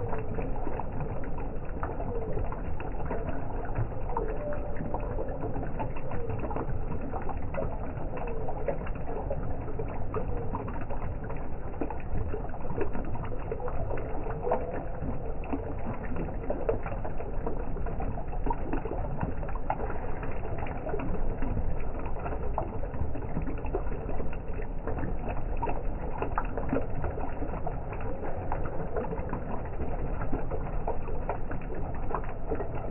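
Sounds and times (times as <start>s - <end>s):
fountain water trickling and splashing: 0.0s - 32.9s.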